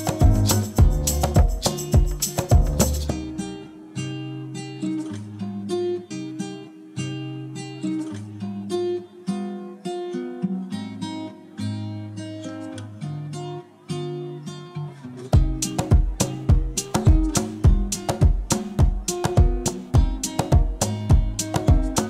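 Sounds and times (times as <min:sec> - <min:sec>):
plucked instrumental music: 0:00.0 - 0:22.0.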